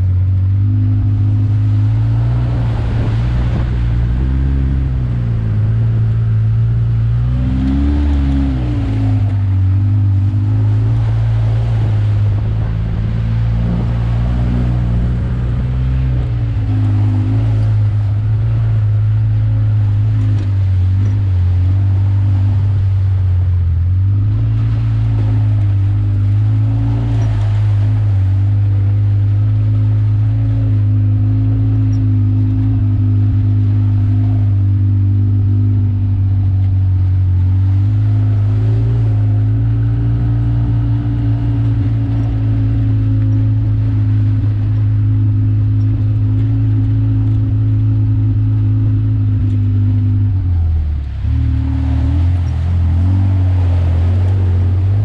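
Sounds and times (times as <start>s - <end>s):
atv engine running: 0.0s - 55.0s
tyres splashing through mud: 0.0s - 55.0s.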